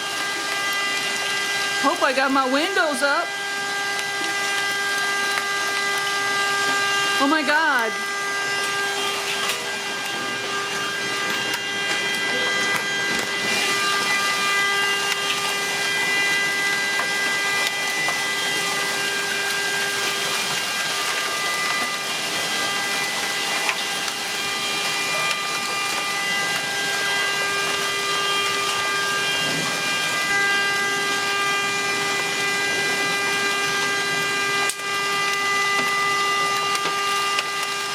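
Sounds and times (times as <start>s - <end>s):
car horn steady tone: 0.0s - 37.9s
rain: 0.0s - 37.9s.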